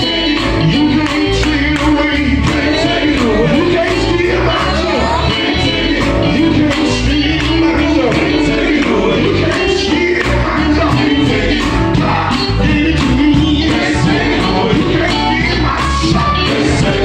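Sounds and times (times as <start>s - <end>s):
band with bass and drums: 0.0s - 17.0s
gospel group singing: 0.0s - 17.0s.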